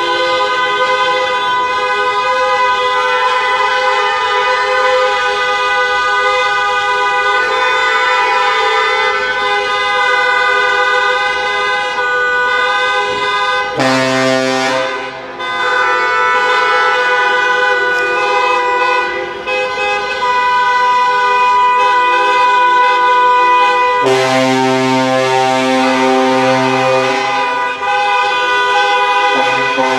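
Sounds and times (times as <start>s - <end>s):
car horns honking: 0.0s - 29.9s
deep car horn: 0.0s - 29.9s.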